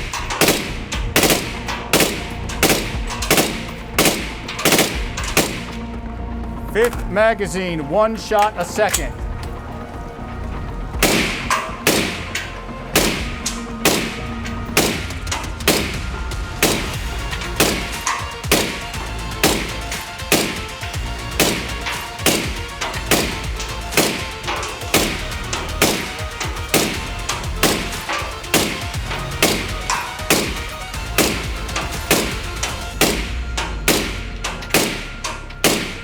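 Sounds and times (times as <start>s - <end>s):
suppressed rifle shots: 0.0s - 5.9s, 11.0s - 36.0s.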